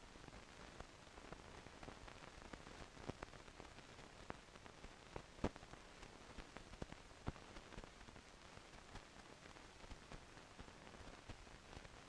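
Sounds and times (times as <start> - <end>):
film hiss with crackles: 0.0 - 12.0.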